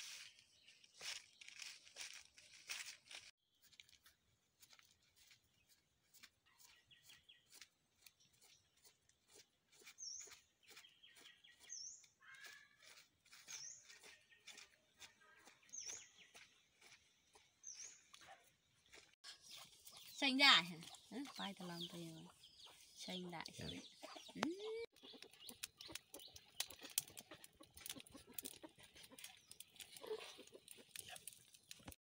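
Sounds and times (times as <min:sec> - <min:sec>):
small bird chirping: 0:03.5 - 0:32.0.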